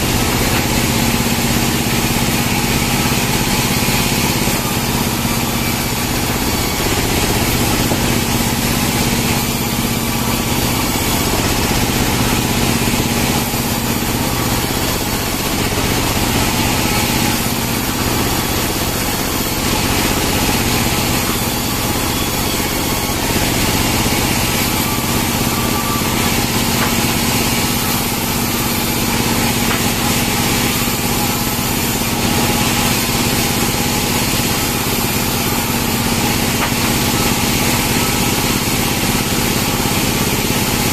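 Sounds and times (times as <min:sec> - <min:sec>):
band sawmill cutting logs: 0:00.0 - 0:40.9.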